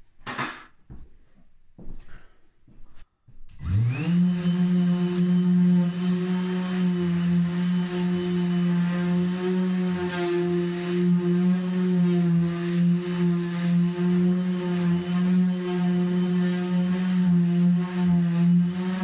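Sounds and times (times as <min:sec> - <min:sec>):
orbital sander sanding wood: 0:03.6 - 0:19.0.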